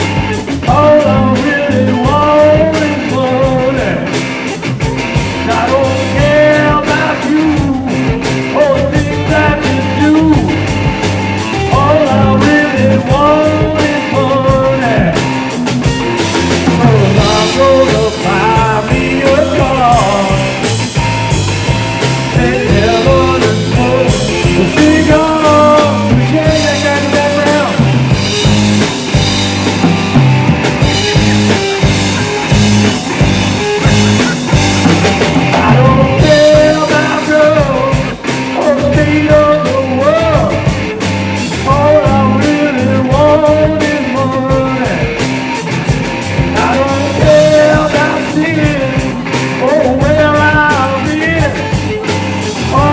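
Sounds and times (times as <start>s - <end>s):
rock band playing live: 0.0s - 52.9s
steady drum beat: 0.0s - 52.9s.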